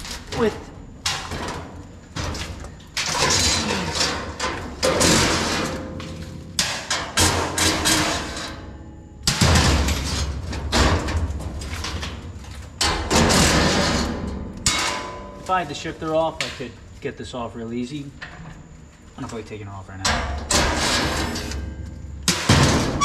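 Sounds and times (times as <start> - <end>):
sheet metal clanking and scraping: 0.0 - 15.6, 20.0 - 23.0.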